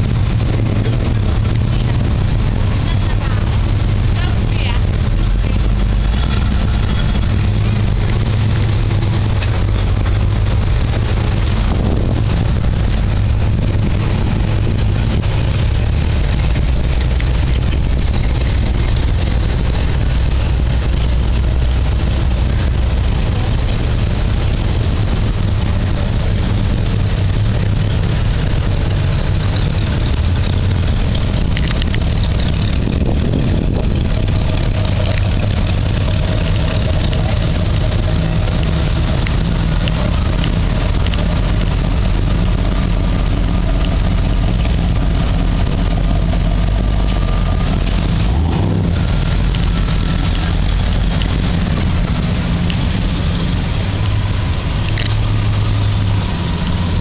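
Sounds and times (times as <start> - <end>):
car engines idling and driving: 0.0 - 57.0.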